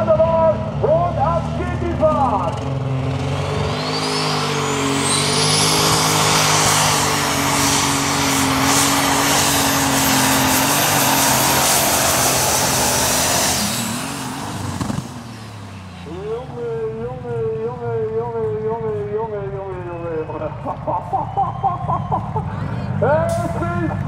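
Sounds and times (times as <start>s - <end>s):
diesel tractor engine at full power: 0.0s - 24.0s.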